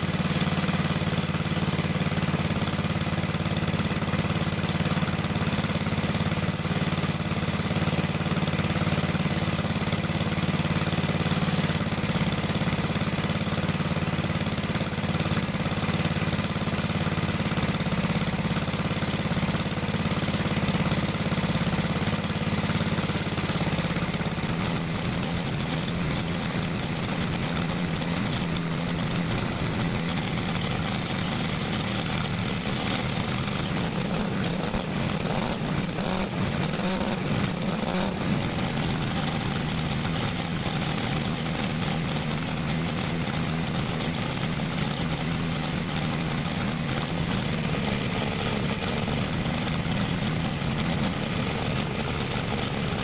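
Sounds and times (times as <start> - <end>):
go-kart engine running under load: 0.0 - 53.0.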